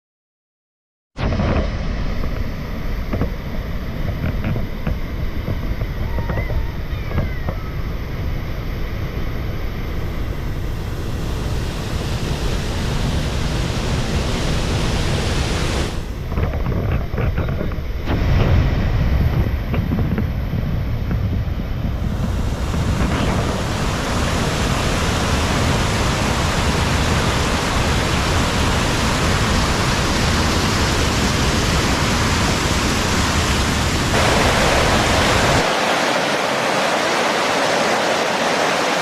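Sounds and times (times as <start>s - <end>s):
wind rumble on microphone: 1.2s - 35.7s
water rushing: 1.3s - 19.1s, 21.5s - 39.0s.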